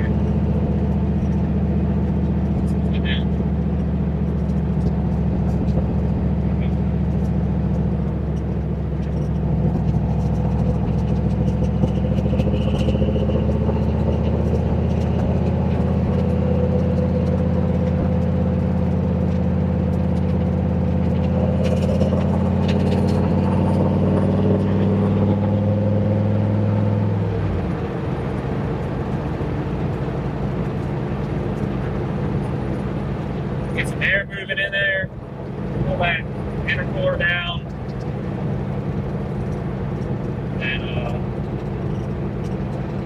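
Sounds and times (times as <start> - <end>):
car engine idling: 0.0 - 43.0
low steady rumble: 0.0 - 43.0.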